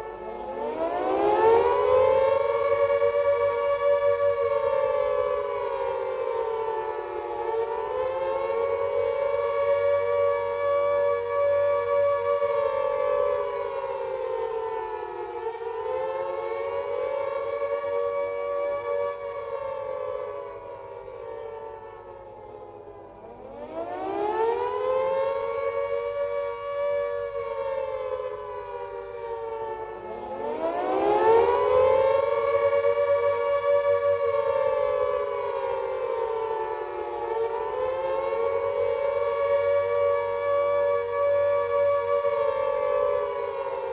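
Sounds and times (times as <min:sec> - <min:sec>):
air raid siren wailing: 0:00.0 - 0:43.9.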